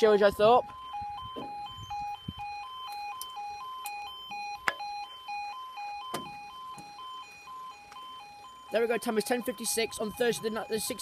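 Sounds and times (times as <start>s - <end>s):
two-tone electronic warning alarm: 0.0s - 11.0s.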